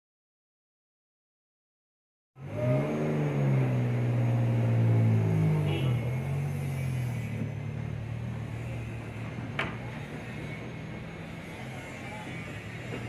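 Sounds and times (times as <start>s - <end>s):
car engine rumble: 2.4s - 13.0s.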